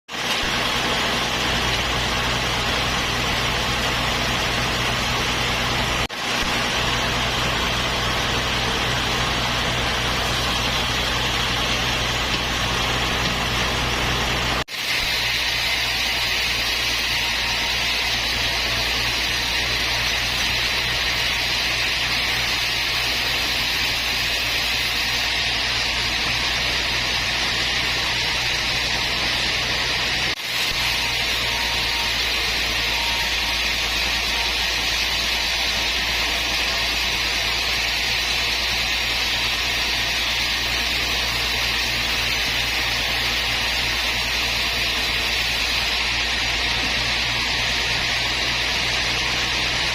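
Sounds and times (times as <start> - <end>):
sawmill machinery running: 0.1 - 49.9.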